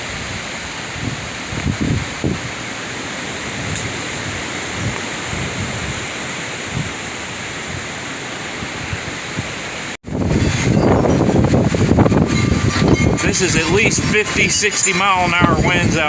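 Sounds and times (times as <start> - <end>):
gusty wind rushing: 0.0 - 16.0
wind buffeting microphone: 0.0 - 16.0.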